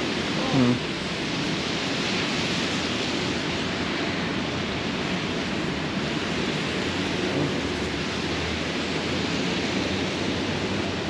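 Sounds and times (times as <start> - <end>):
rain falling on street: 0.0 - 11.0.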